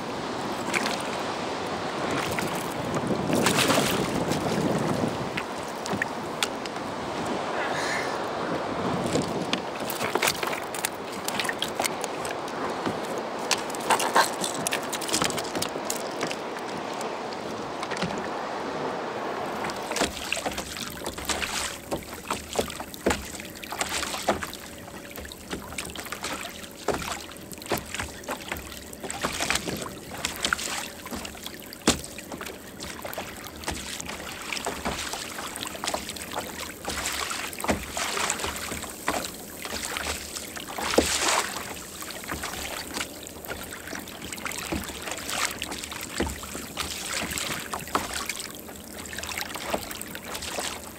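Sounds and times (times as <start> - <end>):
water slaps and knocks on hull: 0.0 - 7.4, 8.6 - 18.5, 19.5 - 50.9
water lapping against kayak hull: 0.0 - 50.9.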